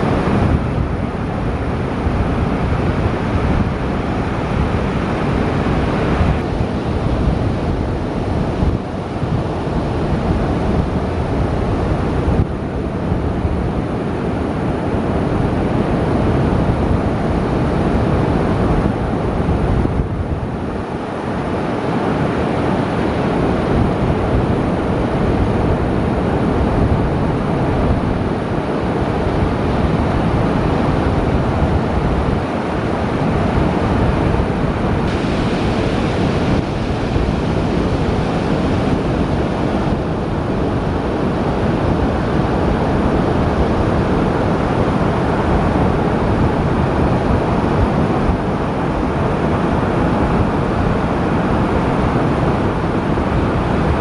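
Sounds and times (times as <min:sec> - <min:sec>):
ocean surf: 0:00.0 - 0:54.0
wind: 0:00.0 - 0:54.0.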